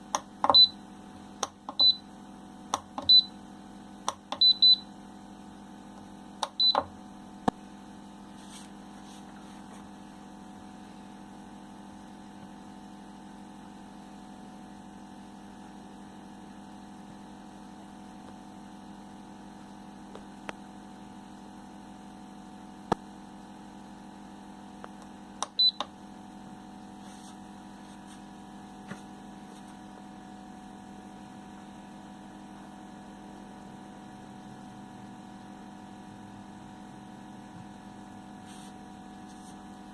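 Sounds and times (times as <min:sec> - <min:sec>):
heat press electrical hum: 0:00.0 - 0:39.9.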